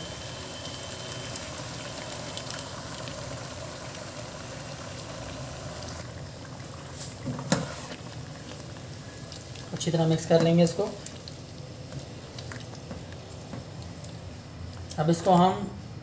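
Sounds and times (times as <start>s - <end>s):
chicken sizzling in hot oil: 0.0s - 14.5s.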